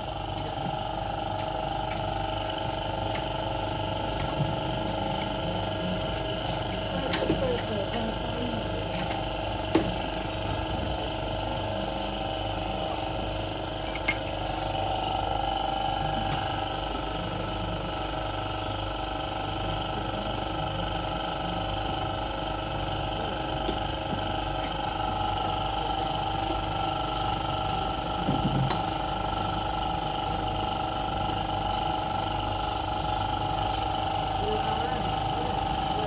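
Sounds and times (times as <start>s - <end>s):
mechanical hum with whine: 0.0s - 36.0s.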